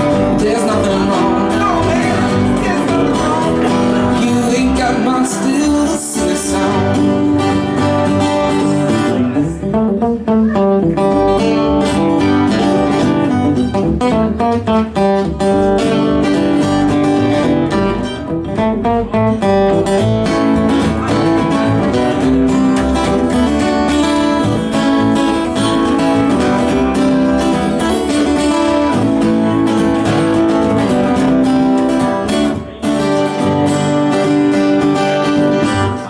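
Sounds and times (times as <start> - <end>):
acoustic guitar strumming: 0.0 - 36.0
live band playing instrumental: 0.0 - 36.0.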